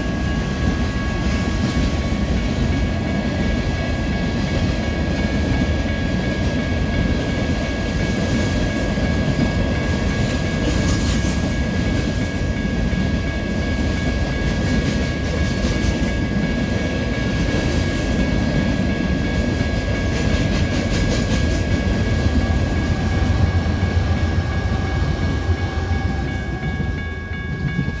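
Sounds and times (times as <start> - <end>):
train cars rumbling: 0.0 - 28.0.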